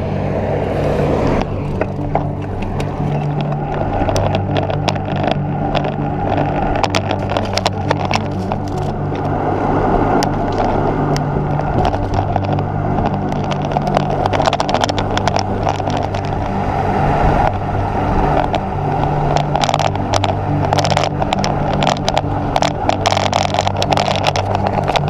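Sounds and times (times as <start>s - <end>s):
bike tyre and road noise: 0.0s - 25.0s
wind buffeting microphone: 0.0s - 25.0s
bike clicks and rattles: 1.3s - 9.3s, 10.1s - 16.6s, 17.2s - 25.0s.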